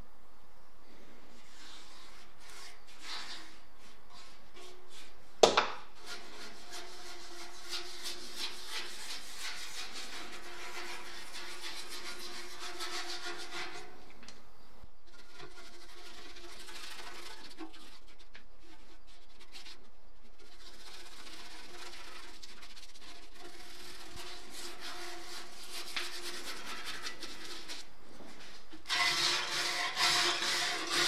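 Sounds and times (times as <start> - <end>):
paintbrush scrubbing on metal: 1.3 - 5.3, 6.0 - 14.0, 15.1 - 31.0.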